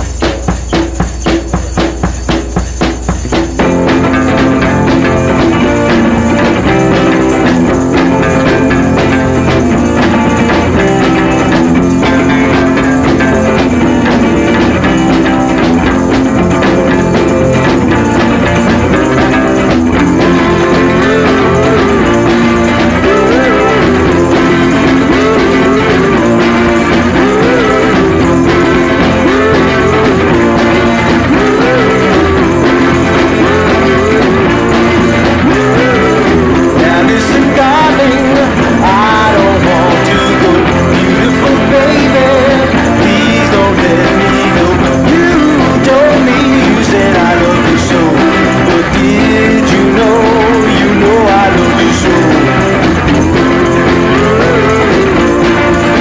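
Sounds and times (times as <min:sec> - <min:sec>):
bending melody line: 0:00.0 - 0:56.0
rock music with guitar: 0:00.0 - 0:56.0.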